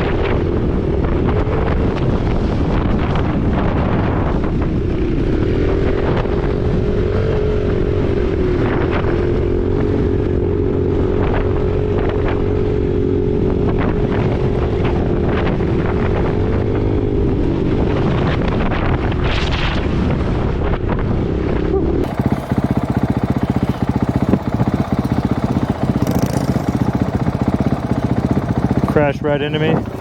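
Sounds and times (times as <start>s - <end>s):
motorbike engine running: 0.0s - 19.1s, 20.7s - 30.0s
wind buffeting microphone: 0.0s - 30.0s.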